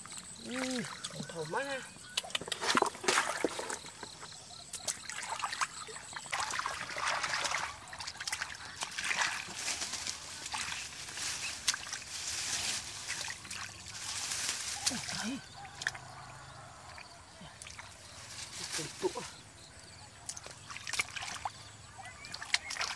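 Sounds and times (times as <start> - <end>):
muddy water splashing: 0.0 - 22.9.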